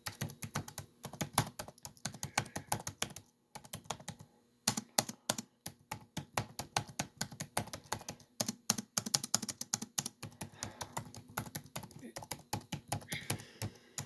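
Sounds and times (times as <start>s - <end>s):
typing on laptop keyboard: 0.0s - 14.0s.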